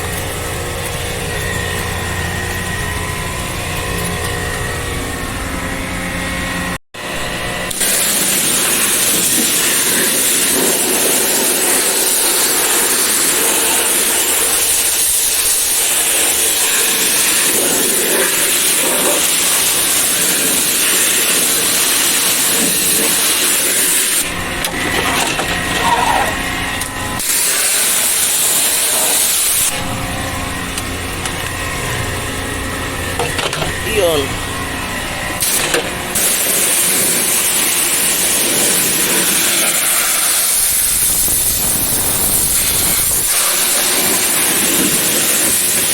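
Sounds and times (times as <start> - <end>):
high-pressure water spray hissing: 0.0 - 5.9, 7.7 - 45.9
machine humming: 0.0 - 45.2.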